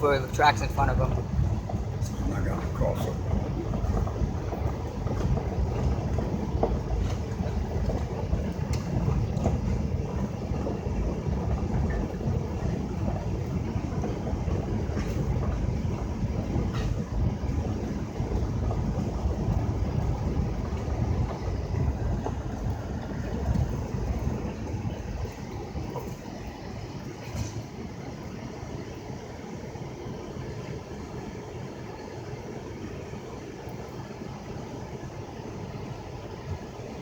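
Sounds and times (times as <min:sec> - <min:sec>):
car driving slowly rumble: 0:00.0 - 0:37.0
diesel locomotive: 0:00.0 - 0:37.0
railcars rolling: 0:00.0 - 0:37.0.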